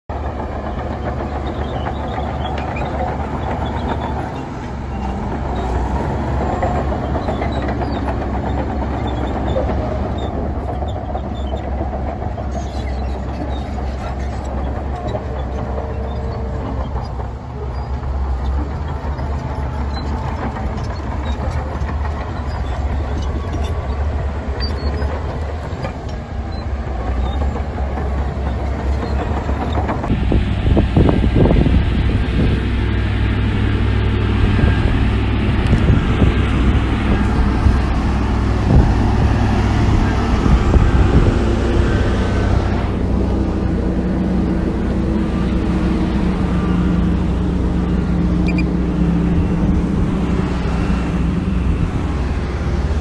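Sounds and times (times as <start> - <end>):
diesel engine drone: 0.1 - 53.0.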